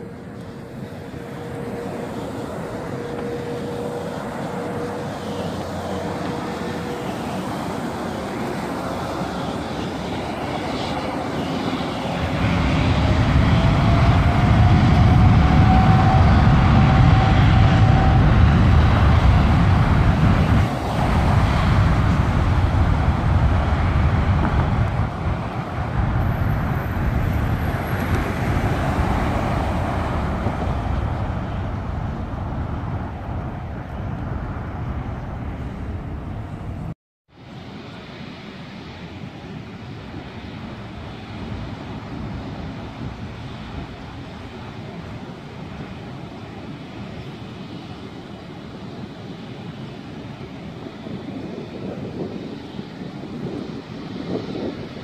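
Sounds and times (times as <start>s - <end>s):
airliner takeoff rumble: 0.0s - 55.0s
jet engines spooling up: 0.0s - 55.0s.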